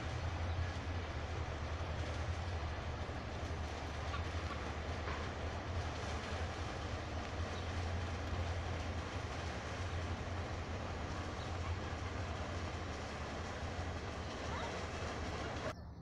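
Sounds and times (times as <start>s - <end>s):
churned water rushing: 0.0s - 15.7s
paddle steamer engine rumble: 0.0s - 15.8s.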